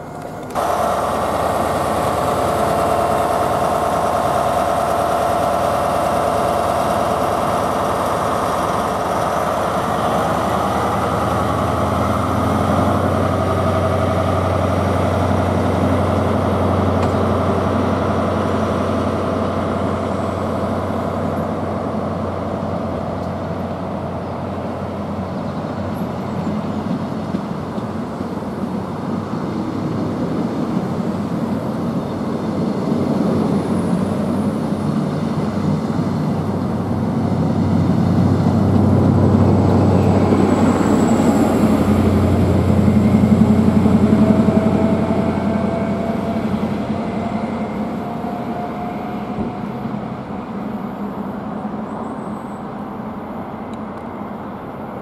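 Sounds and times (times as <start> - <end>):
diesel engine running: 0.0 - 55.0
train coaches rolling past: 0.0 - 55.0.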